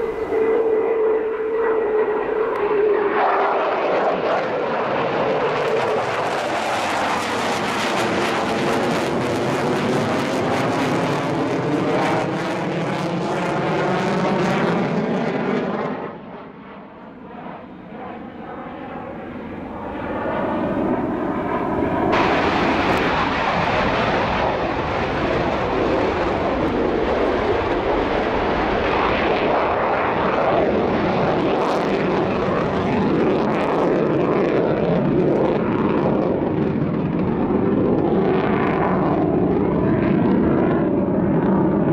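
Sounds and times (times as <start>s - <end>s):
fighter jet engines roaring: 0.0s - 41.9s.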